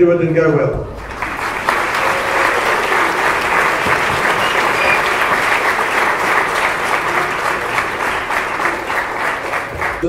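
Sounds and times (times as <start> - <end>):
audience applauding: 1.0 - 10.0.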